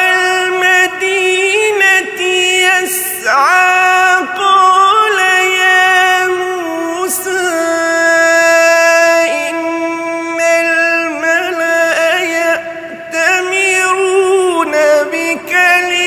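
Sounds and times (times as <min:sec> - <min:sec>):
man reciting melodically into microphone: 0:00.0 - 0:16.0.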